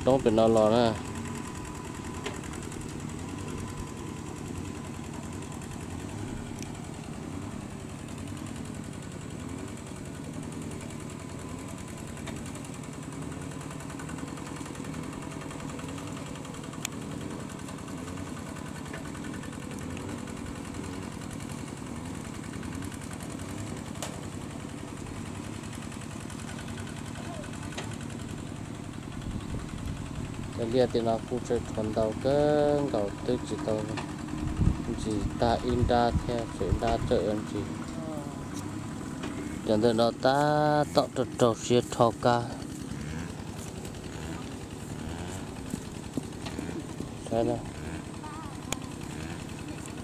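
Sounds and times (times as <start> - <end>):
small engine running: 0.0 - 50.0.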